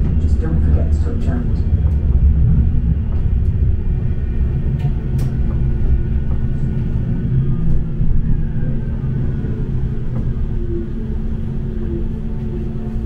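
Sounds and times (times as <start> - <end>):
tram rumbling on rails: 0.0 - 13.0
tram whine: 0.0 - 13.0.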